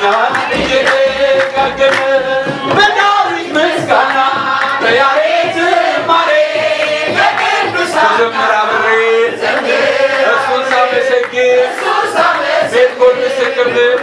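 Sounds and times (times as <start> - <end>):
congregation singing a hymn: 0.0 - 14.0
hand drum beating: 0.0 - 14.0
hands clapping: 0.0 - 14.0.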